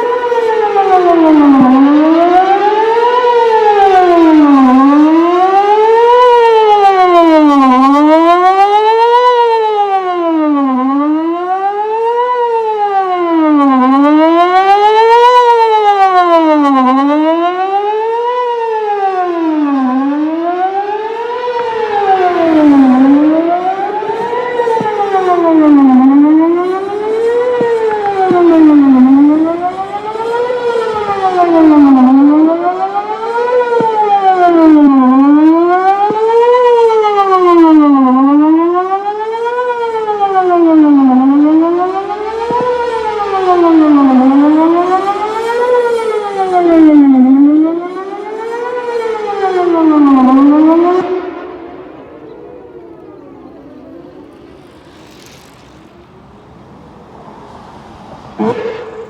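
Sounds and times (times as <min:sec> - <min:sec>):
warning siren wailing: 0:00.0 - 0:59.0.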